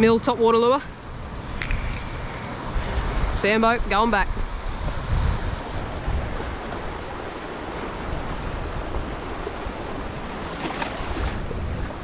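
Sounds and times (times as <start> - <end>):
wind rumbling on microphone: 0.0 - 12.0
waves washing on shore: 1.3 - 12.0.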